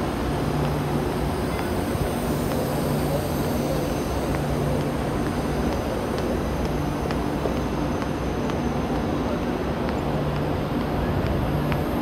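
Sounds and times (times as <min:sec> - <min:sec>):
train equipment humming: 0:00.0 - 0:12.0
footsteps on paving: 0:01.4 - 0:12.0.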